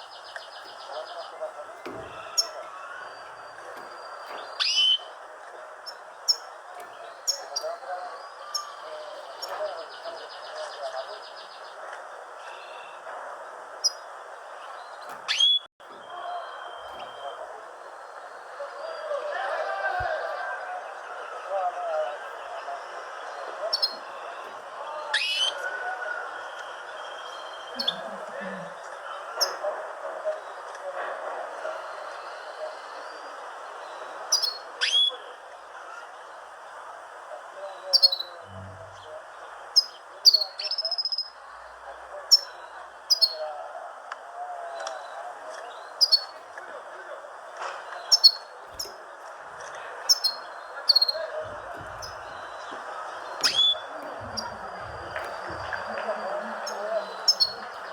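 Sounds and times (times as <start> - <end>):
small birds chirping: 0.0 - 19.2, 20.9 - 25.7, 26.3 - 30.8, 31.6 - 35.2, 35.8 - 43.6, 44.8 - 57.9.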